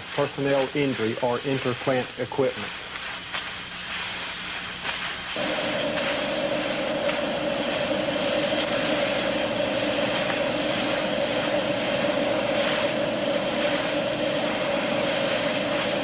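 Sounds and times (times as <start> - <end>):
air blow gun hissing: 0.0 - 16.0.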